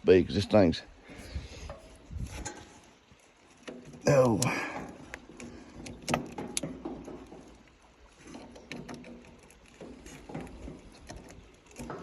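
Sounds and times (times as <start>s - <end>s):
faint clicks and light knocks: 1.6s - 12.0s.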